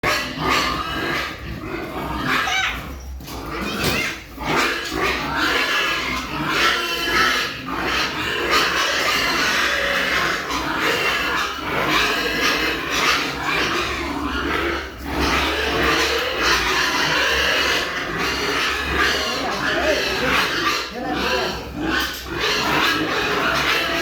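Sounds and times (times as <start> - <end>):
pigs squealing and grunting: 0.0 - 24.0.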